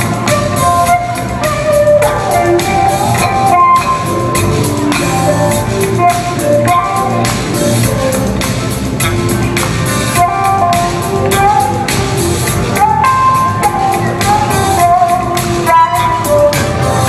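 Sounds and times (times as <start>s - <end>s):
drum beat: 0.0s - 17.0s
melodic lead line: 0.0s - 17.0s.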